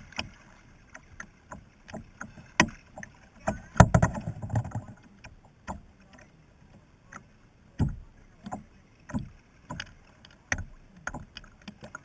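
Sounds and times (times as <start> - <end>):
paddle splashes and knocks: 0.0 - 12.0.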